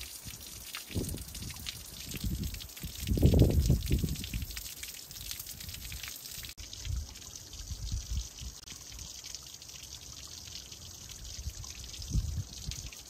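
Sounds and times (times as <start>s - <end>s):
stream trickling: 0.0s - 13.0s.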